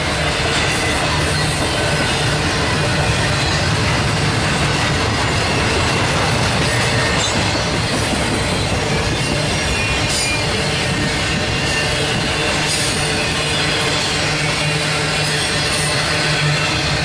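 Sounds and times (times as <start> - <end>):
steel wheels clattering on rail: 0.0 - 17.0.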